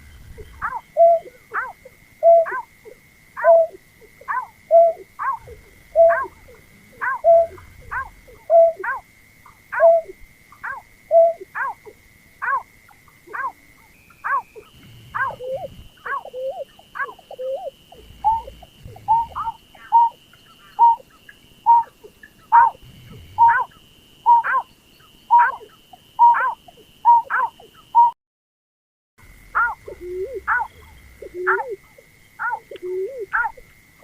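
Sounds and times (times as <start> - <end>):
bird calls with falling notes: 0.0 - 2.7, 3.4 - 11.8, 13.3 - 28.2, 29.6 - 33.6
thin steady high tone: 0.0 - 28.2.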